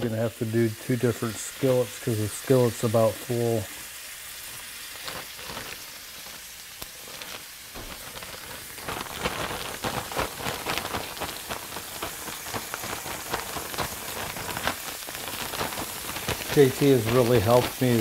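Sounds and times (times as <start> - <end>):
meat sizzling and popping in oil: 0.0 - 18.0.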